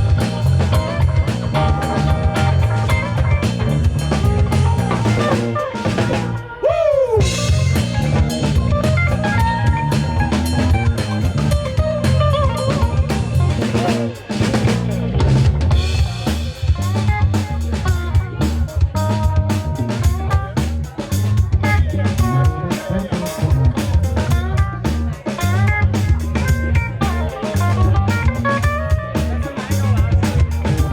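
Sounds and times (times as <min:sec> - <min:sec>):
sliding guitar lines: 0:00.0 - 0:06.6, 0:07.2 - 0:30.9
bass guitar line: 0:00.0 - 0:30.9
drum kit groove: 0:00.0 - 0:30.9.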